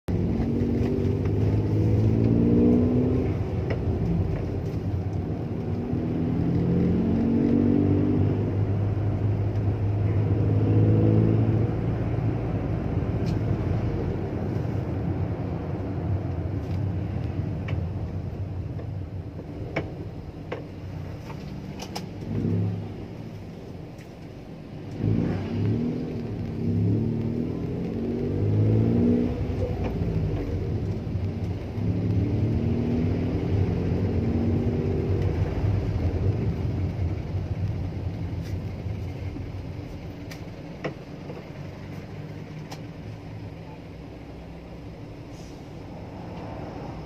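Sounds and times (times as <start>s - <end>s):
car engine accelerating: 0.1s - 47.0s.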